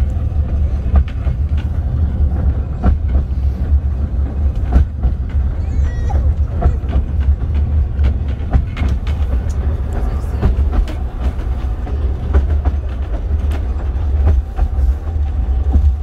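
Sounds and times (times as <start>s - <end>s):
train carriage rumble: 0.0s - 16.0s
wheels clattering on rails: 0.0s - 16.0s.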